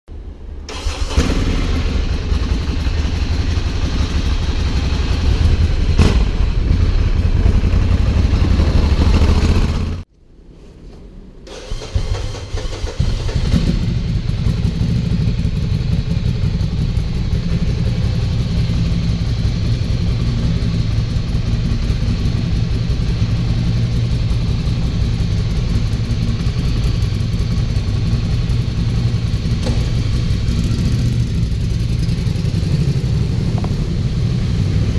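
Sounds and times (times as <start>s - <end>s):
motorcycle engine idling: 0.7s - 10.0s, 13.1s - 34.9s.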